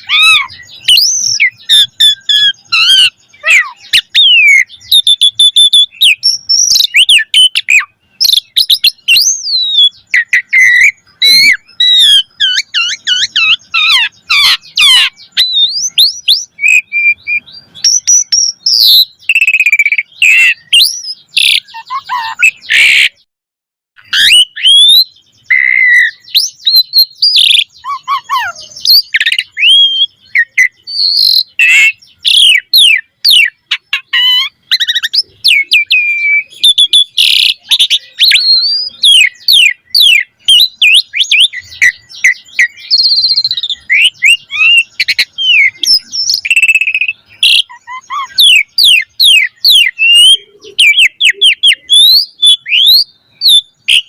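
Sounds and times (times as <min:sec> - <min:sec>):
starling singing whistles and chirps: 0:00.0 - 0:23.3, 0:24.0 - 0:54.0.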